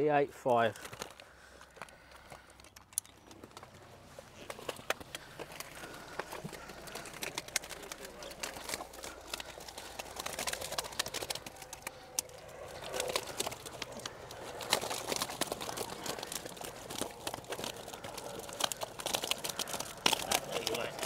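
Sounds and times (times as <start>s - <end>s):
wet nylon mesh rustling: 0.6s - 21.0s.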